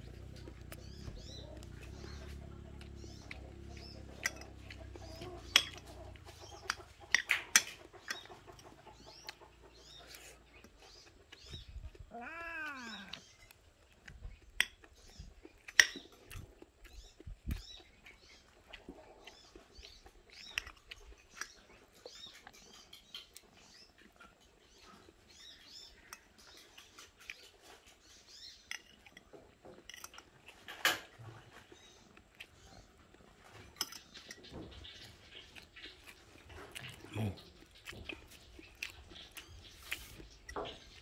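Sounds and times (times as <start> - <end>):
soft chewing: 0.0 - 41.0.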